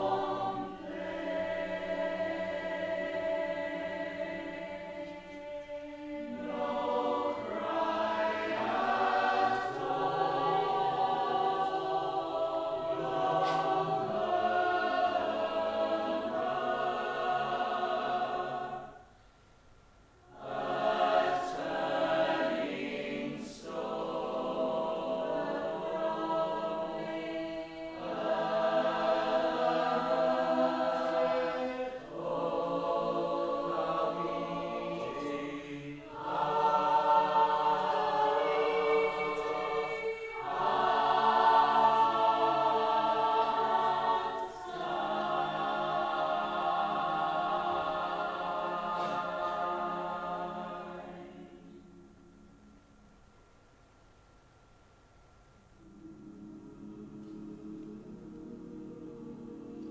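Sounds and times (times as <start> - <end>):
choir singing unaccompanied: 0.0 - 19.2, 20.2 - 53.1, 55.8 - 59.9.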